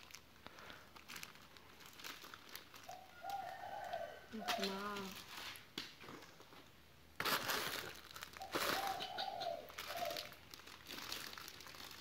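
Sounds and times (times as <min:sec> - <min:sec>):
plastic wrapping crinkling: 0:00.0 - 0:06.5, 0:07.2 - 0:12.0.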